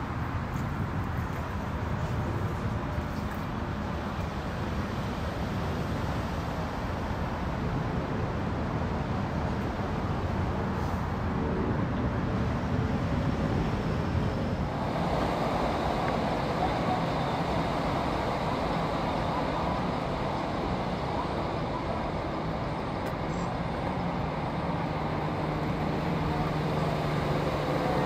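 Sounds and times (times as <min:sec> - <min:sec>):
boat engines rumbling: 0:00.0 - 0:28.0
faint engine hum: 0:00.0 - 0:28.0.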